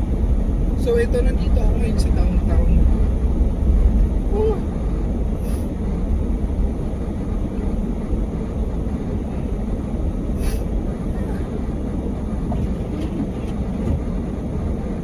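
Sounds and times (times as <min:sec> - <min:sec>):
car driving through deep snow: 0:00.0 - 0:15.0.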